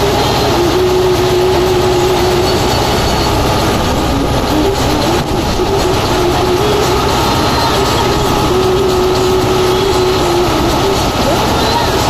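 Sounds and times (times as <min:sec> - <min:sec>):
thresher and tractor running: 0:00.0 - 0:12.0.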